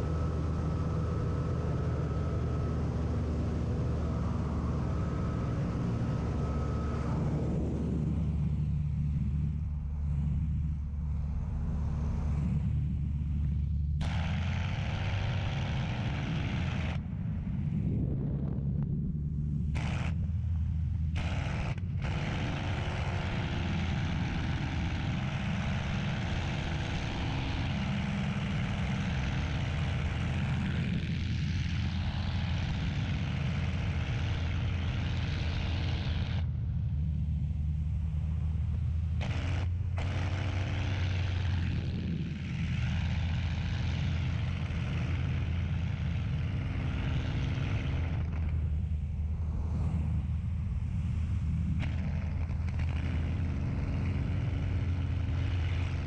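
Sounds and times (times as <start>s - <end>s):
propeller plane engine in flight: 0.0s - 56.0s.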